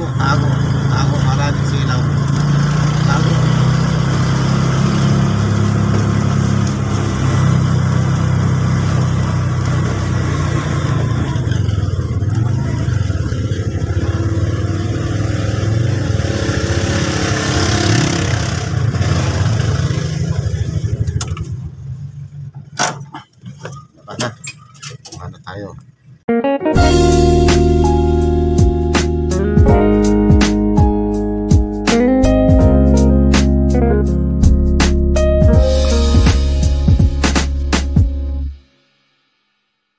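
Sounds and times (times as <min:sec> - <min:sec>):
vehicle engine and road noise: 0:00.0 - 0:38.6.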